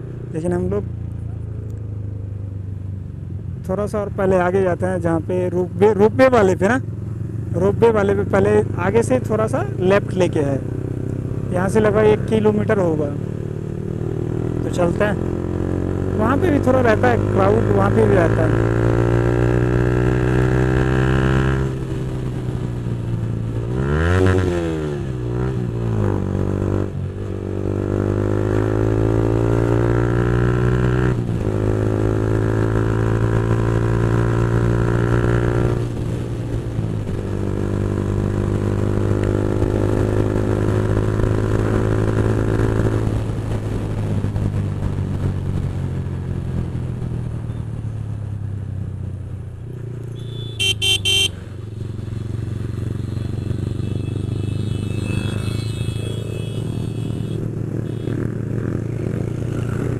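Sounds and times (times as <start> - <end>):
motorcycle engine with loud exhaust: 0.0 - 59.9.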